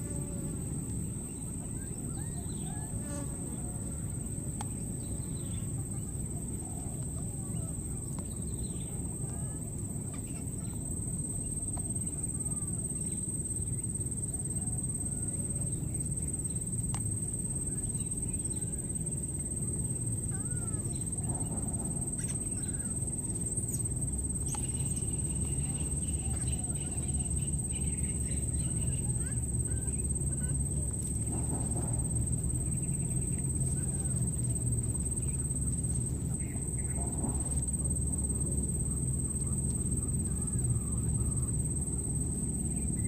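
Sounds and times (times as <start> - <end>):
low background rumble: 0.0 - 43.0.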